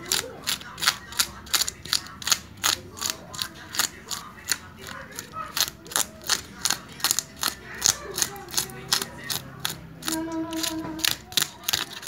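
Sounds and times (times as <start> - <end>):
knife scraping fish scales: 0.0 - 12.0.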